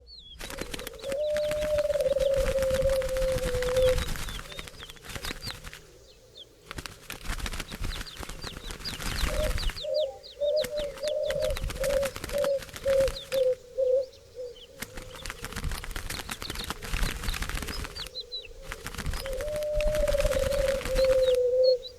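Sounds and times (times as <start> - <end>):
small birds chirping: 0.0 - 21.9
wings flapping: 0.3 - 13.6, 14.6 - 21.8
doves cooing: 0.4 - 21.9.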